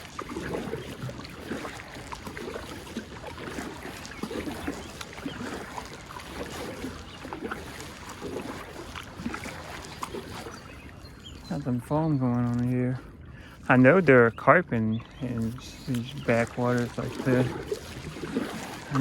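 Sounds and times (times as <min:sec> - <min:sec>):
water splashing around kayak: 0:00.0 - 0:19.0.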